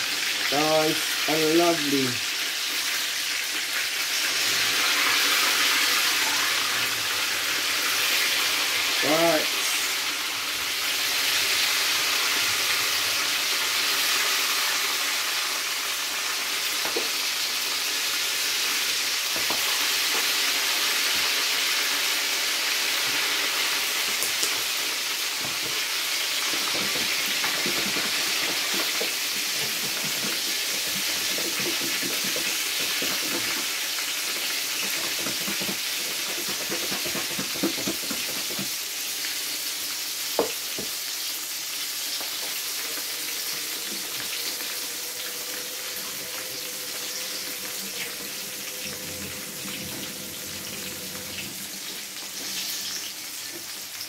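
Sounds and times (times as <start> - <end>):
fish frying in hot oil: 0.0 - 54.0.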